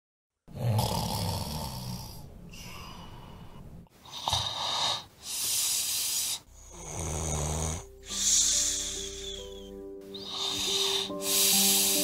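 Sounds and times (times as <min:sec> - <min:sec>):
person snoring: 0:00.5 - 0:12.0.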